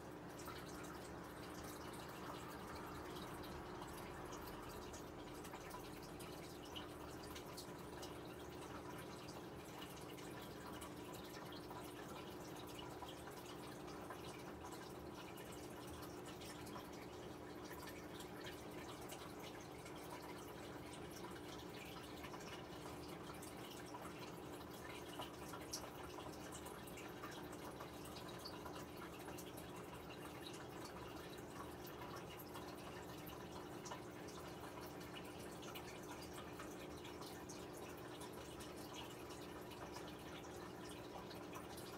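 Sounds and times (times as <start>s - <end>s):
faint water dripping: 0.0s - 41.9s.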